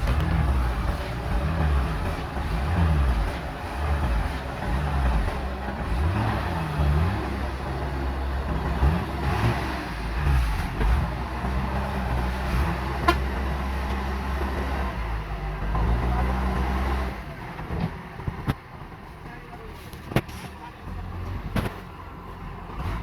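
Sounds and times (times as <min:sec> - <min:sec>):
diesel engine revving under load: 0:00.0 - 0:23.0.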